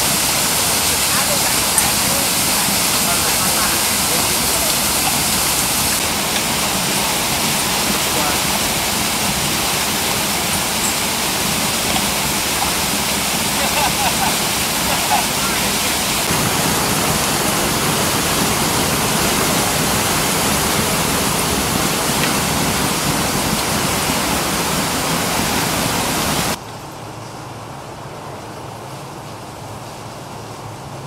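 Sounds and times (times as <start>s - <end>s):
water gushing from hydrant: 0.0s - 26.6s.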